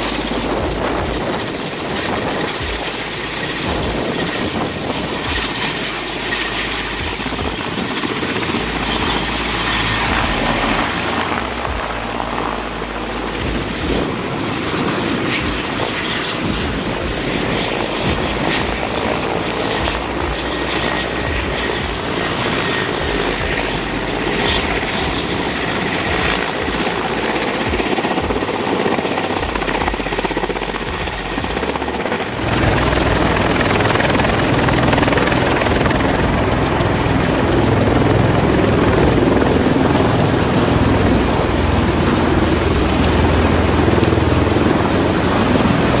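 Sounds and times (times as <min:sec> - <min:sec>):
helicopter engine and rotor: 0:00.0 - 0:46.0
helicopter low rumble: 0:00.0 - 0:46.0.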